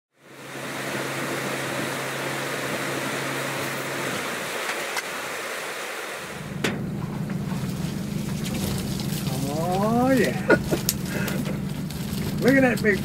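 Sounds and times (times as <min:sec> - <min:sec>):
engine hum: 0:00.1 - 0:13.0
higher hum: 0:00.2 - 0:13.0.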